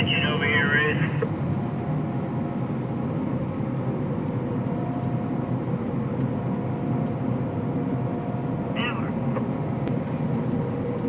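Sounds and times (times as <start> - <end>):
combine harvester engine drone: 0.0 - 11.0
faint steady whine: 0.0 - 11.0.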